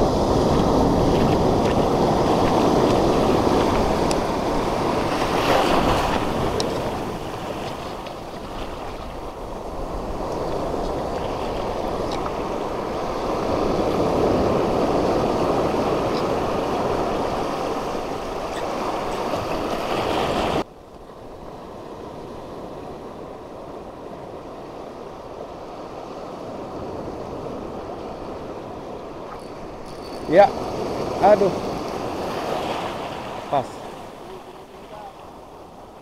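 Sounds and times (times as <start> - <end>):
surf washing over reef rocks: 0.0 - 20.7, 21.9 - 36.0.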